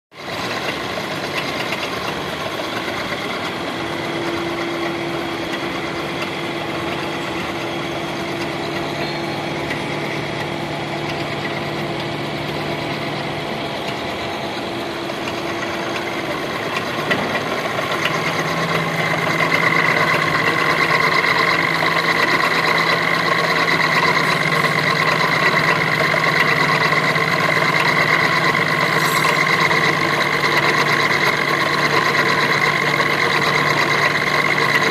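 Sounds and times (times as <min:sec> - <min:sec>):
machine tool whining hum: 0:00.2 - 0:34.9.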